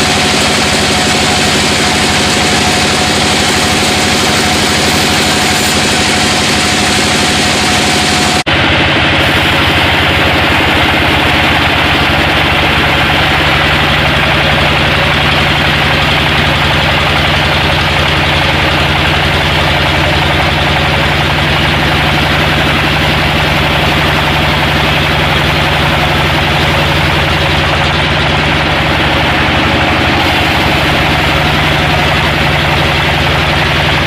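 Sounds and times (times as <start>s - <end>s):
sawmill machinery engine hum: 0.0s - 34.0s.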